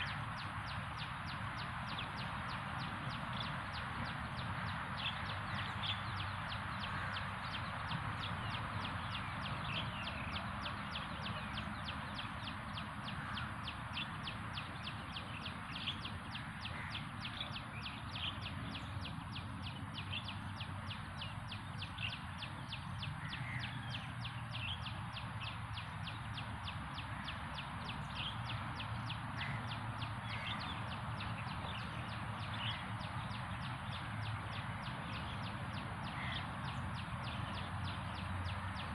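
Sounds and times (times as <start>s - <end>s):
steady background noise: 0.0s - 38.9s.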